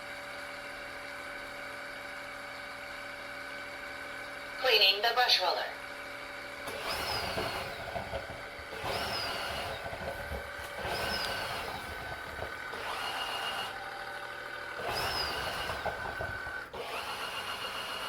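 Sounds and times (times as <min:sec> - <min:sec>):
floor cleaner running: 0:00.0 - 0:18.0.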